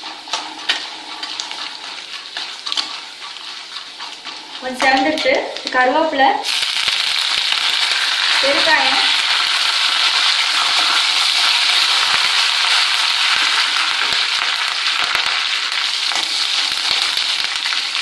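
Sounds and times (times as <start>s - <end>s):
spices sizzling in hot oil: 0.0s - 18.0s.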